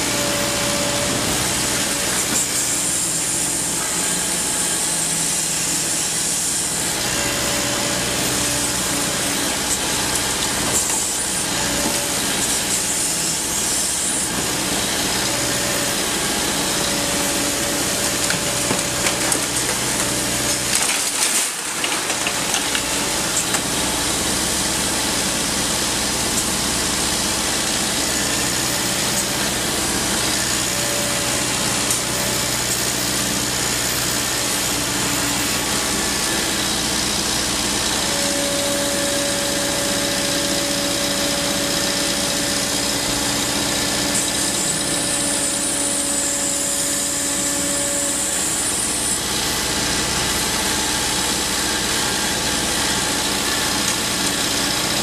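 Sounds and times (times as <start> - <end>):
excavator diesel engine and hydraulics: 0.0 - 55.0.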